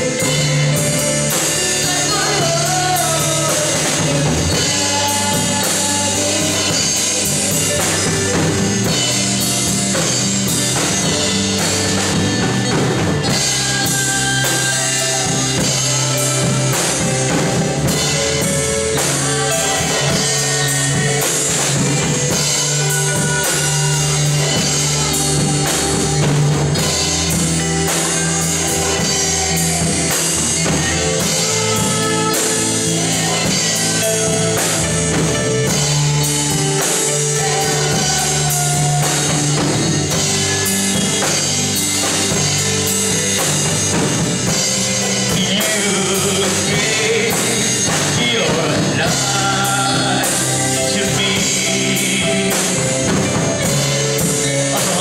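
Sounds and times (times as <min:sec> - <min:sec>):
drum kit: 0:00.0 - 0:55.0
electric guitar: 0:00.0 - 0:55.0
keyboard: 0:00.0 - 0:55.0.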